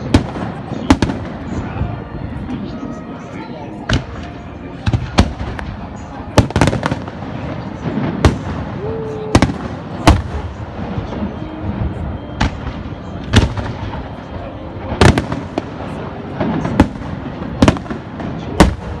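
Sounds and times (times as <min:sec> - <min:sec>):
fireworks bursting with bangs: 0:00.0 - 0:19.0.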